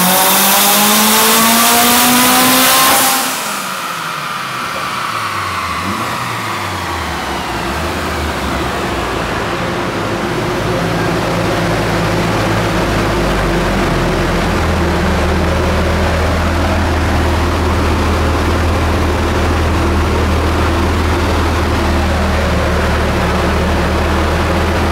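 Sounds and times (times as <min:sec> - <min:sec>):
car engine low drone: 0:00.0 - 0:24.9
turbo whining: 0:00.0 - 0:24.9.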